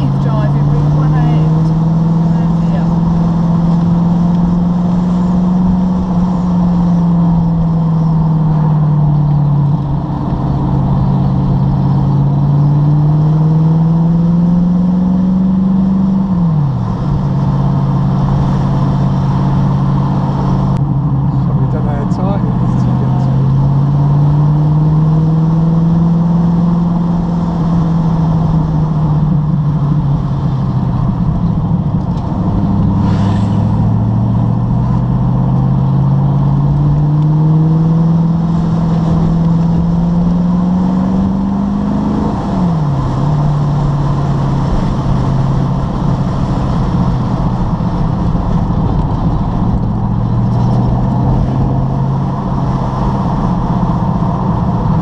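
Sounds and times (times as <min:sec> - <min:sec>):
road and wind noise: 0:00.0 - 0:55.0
sports car engine accelerating: 0:00.0 - 0:55.0.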